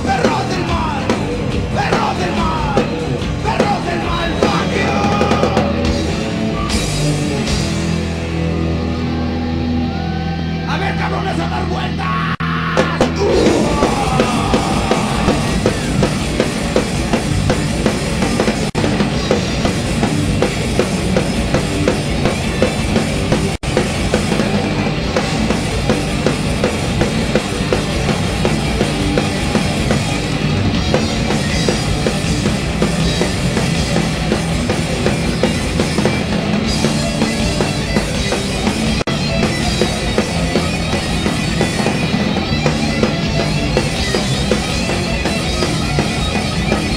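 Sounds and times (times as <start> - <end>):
rapid drum beats: 0.0 - 8.2, 12.6 - 46.9
heavy metal band playing live: 0.0 - 46.9.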